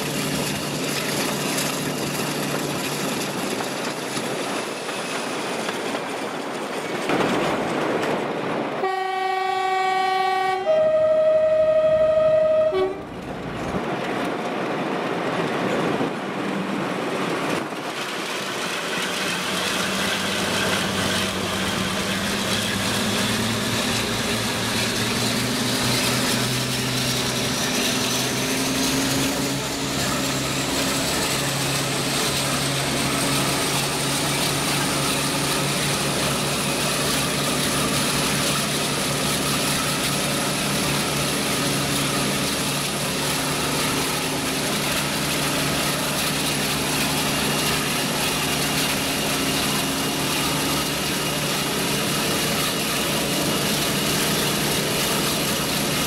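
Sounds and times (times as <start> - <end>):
locomotive engine drone: 0.0 - 56.0.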